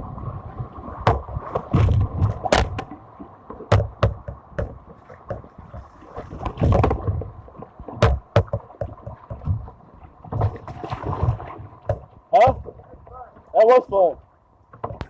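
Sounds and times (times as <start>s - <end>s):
water rushing and splashing: 0.0s - 15.0s
knocks and thumps against kayak: 0.8s - 15.0s.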